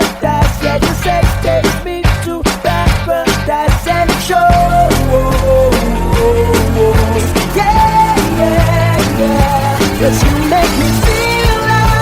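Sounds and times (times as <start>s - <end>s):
pop song playing: 0.0s - 12.0s.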